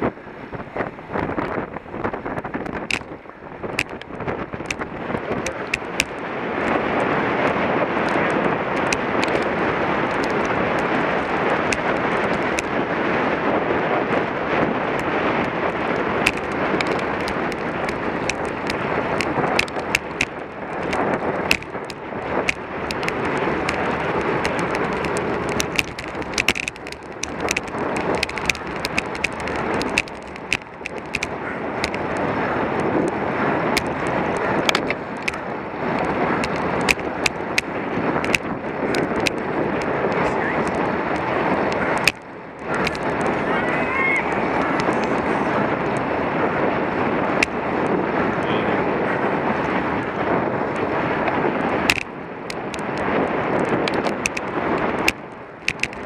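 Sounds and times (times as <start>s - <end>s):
wind rushing over microphone: 0.0s - 56.0s
bike clicks and knocks: 1.2s - 12.8s, 14.9s - 43.4s, 44.6s - 46.1s, 50.7s - 56.0s.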